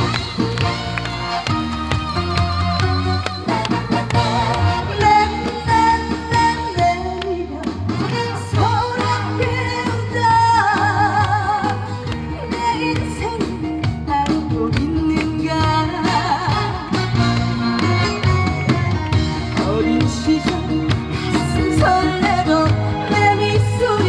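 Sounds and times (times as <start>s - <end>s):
live band through loudspeakers: 0.0s - 24.0s
woman singing with vibrato: 4.0s - 24.0s.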